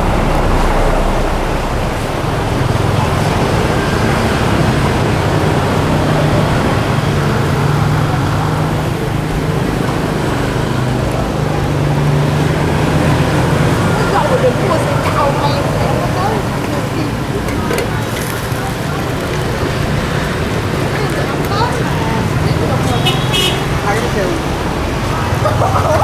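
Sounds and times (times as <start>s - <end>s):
passing traffic hum: 0.0s - 26.0s.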